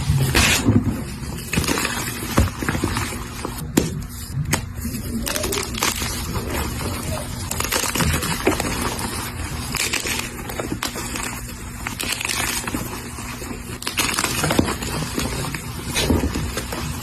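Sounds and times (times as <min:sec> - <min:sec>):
chalk crunching and crackling: 0:00.0 - 0:17.0.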